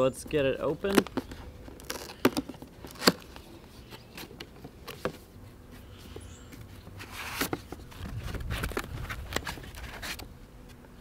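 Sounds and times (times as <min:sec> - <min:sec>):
cardboard scraping rustle: 0:00.3 - 0:10.3.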